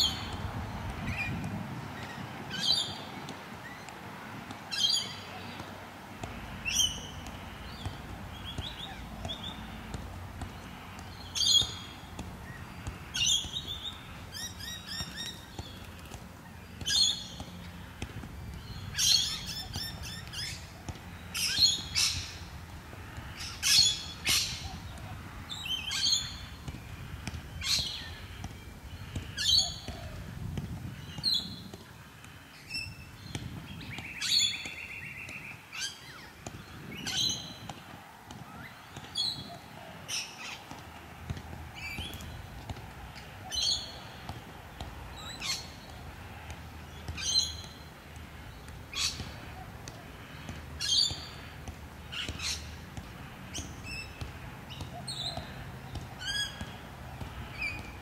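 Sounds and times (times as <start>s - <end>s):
steady low background noise: 0.0s - 58.0s.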